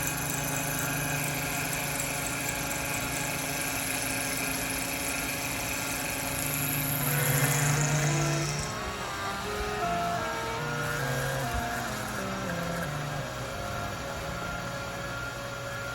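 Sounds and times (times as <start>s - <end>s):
milling machine whine and hum: 0.0s - 15.9s.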